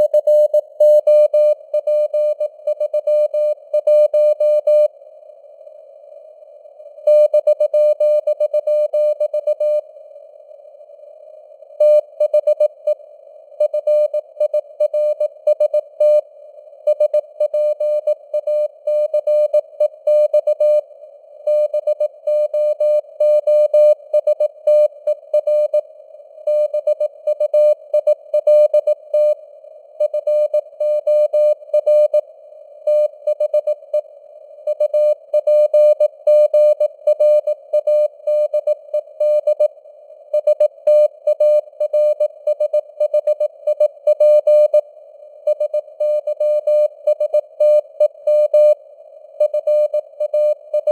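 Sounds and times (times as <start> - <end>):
faint radio noise hiss: 0.0 - 50.9.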